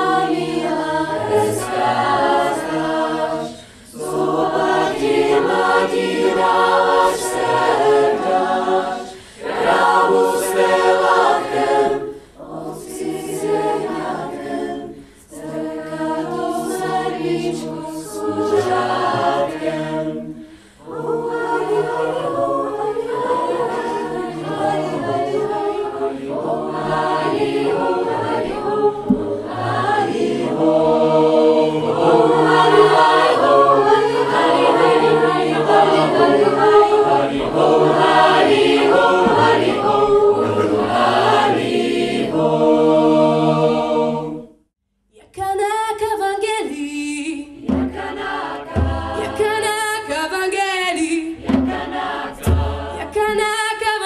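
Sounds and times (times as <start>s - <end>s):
mixed choir singing in chords: 0.0s - 44.6s, 47.5s - 49.9s, 51.3s - 53.5s.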